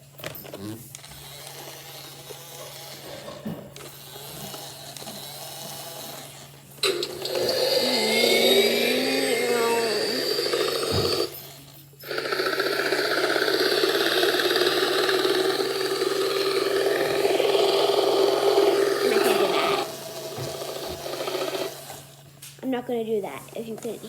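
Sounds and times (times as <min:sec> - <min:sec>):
machine motor whirring: 0:00.4 - 0:22.4.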